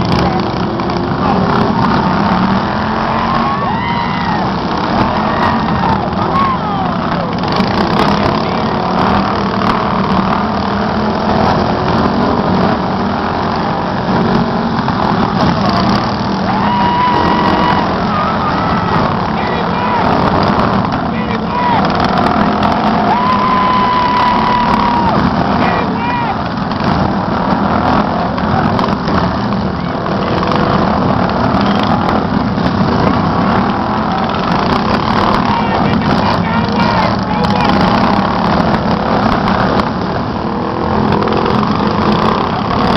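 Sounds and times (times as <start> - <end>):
lawn mower engines running: 0.0 - 42.9.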